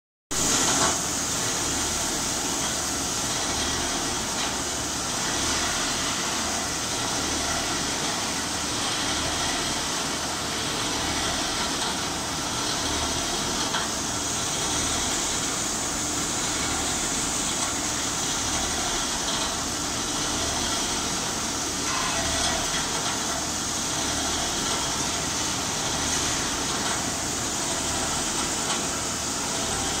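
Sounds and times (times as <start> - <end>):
boring machine running: 0.4 - 30.0.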